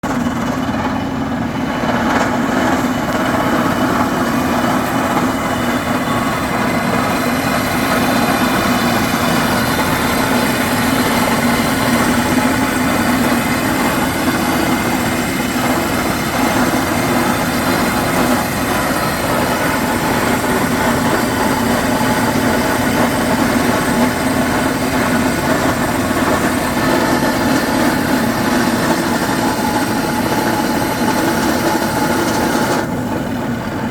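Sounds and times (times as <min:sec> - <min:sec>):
rock drilling machinery: 0:00.1 - 0:33.9.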